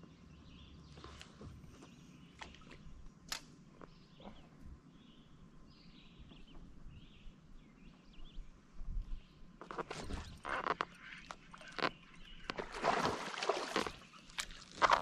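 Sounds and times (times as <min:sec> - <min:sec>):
distant bird calls: 0:00.0 - 0:14.6.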